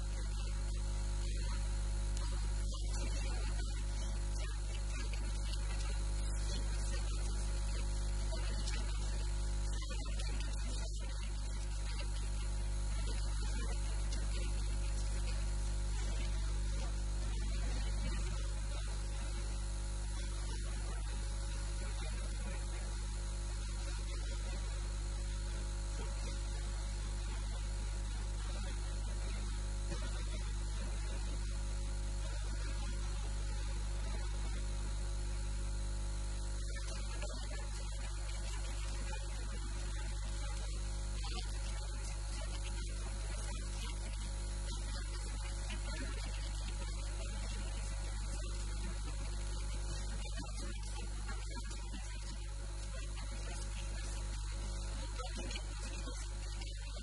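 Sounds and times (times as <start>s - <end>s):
constant hiss: 0.0s - 57.0s
electrical mains hum: 0.0s - 57.0s.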